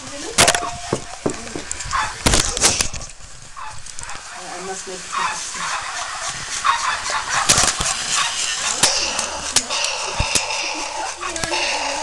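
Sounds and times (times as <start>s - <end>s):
plastic toys knocking and clicking: 0.3s - 4.2s, 5.8s - 12.0s.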